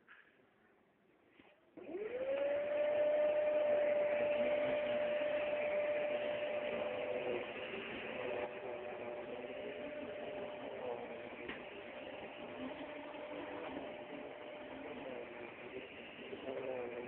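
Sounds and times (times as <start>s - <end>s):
vacuum cleaner running: 1.4s - 17.0s.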